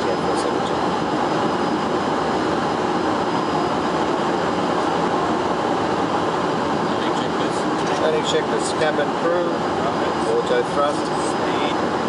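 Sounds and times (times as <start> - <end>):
airflow and air conditioning rushing: 0.0 - 12.0
faint high whine: 0.0 - 12.0.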